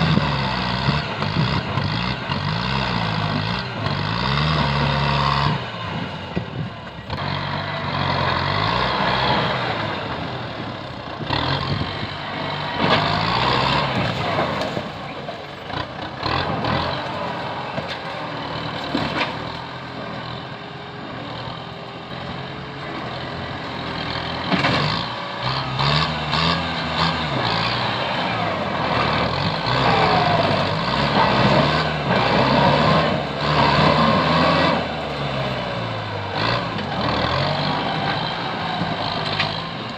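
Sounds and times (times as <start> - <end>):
tractor diesel engine working hard: 0.0 - 39.9.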